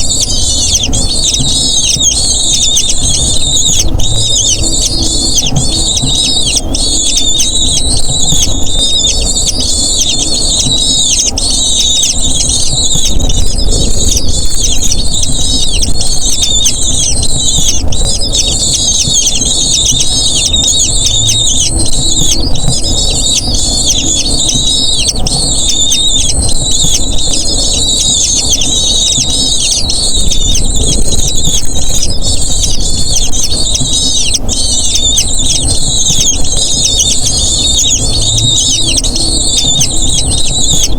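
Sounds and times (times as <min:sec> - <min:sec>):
chicks high-pitched squealing cheeps: 0:00.0 - 0:40.9
steady low rumble: 0:00.0 - 0:40.9.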